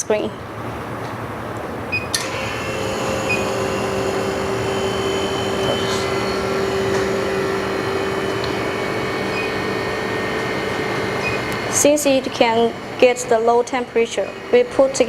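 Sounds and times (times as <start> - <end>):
freezer machine hum: 0.0 - 15.0
steady mid-pitched tone: 2.3 - 15.0.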